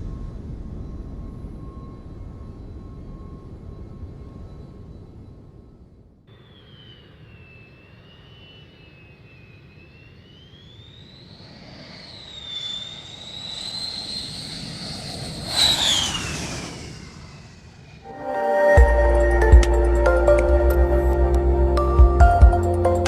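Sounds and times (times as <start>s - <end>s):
jet aircraft flying past: 0.0s - 18.8s.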